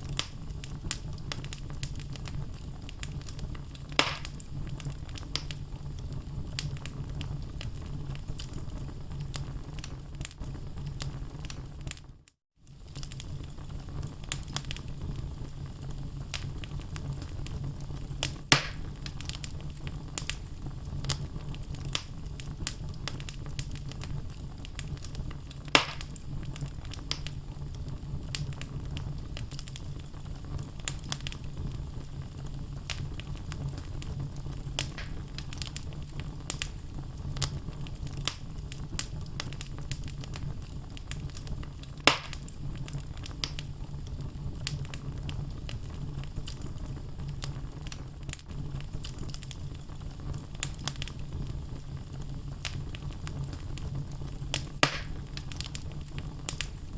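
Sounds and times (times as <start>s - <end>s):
logs crackling in fireplace: 0.0s - 56.9s
low rumble of flames: 0.0s - 56.9s.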